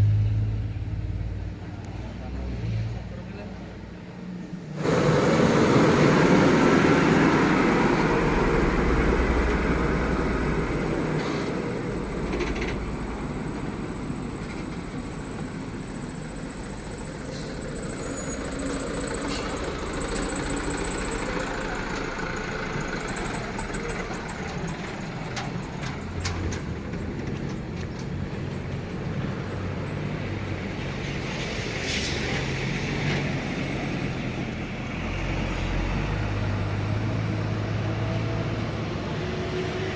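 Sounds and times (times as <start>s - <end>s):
vehicle engines on rough road: 0.0s - 39.9s.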